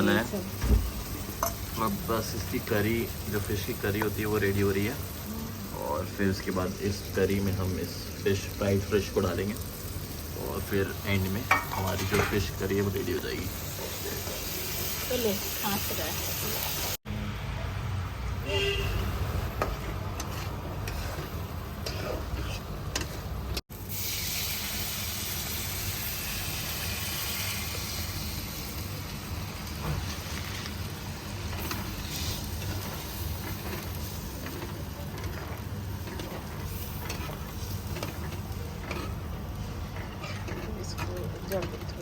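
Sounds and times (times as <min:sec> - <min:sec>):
curry sizzling in a hot pan: 0:00.0 - 0:17.0, 0:19.4 - 0:42.0.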